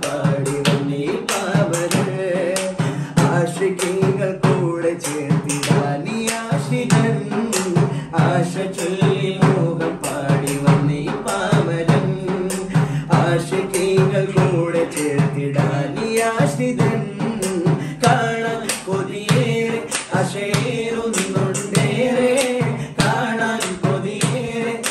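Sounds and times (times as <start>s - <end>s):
men singing together: 0.0s - 24.9s
steady percussion beat: 0.0s - 24.9s.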